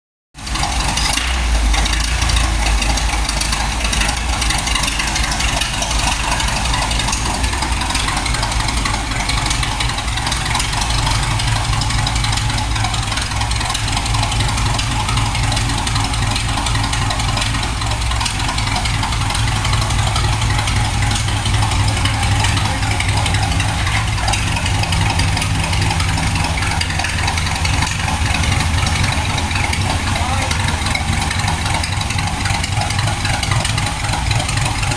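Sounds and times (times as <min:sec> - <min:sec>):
car engine idling: 0:00.3 - 0:34.9.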